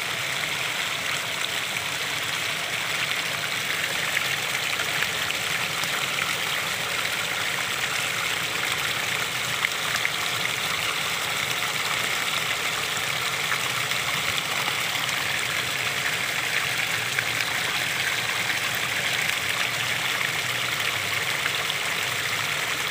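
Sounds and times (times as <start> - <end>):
small waterfall splashing: 0.0 - 22.9.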